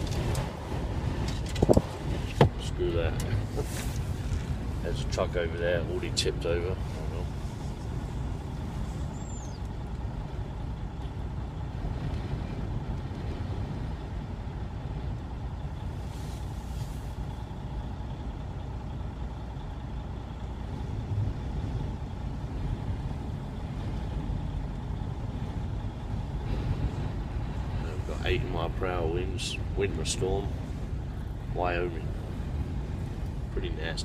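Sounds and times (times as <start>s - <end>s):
strong wind buffeting: 0.0s - 34.0s
vehicle engine idling: 0.0s - 34.0s.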